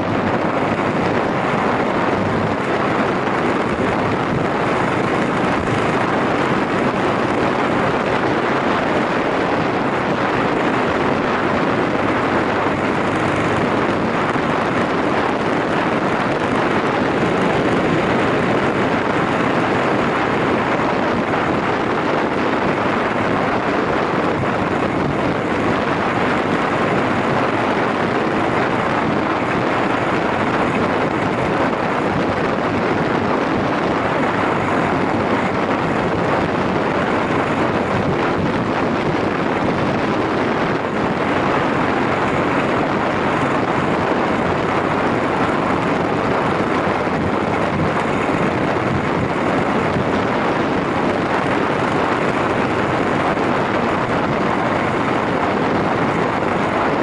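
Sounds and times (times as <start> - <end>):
motorcycle engine cruising: 0.0 - 57.0
wind rush over microphone: 0.0 - 57.0.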